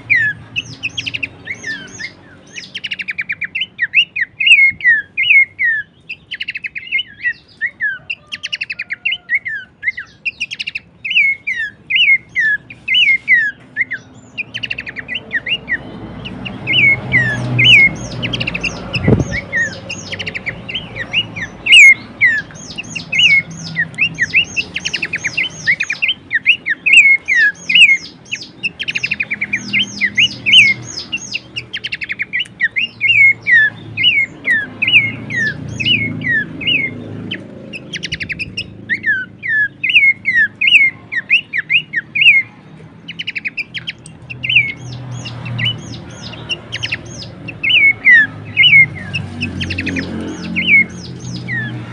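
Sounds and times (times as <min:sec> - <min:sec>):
bird whistles and buzzy trills: 0:00.0 - 0:51.9.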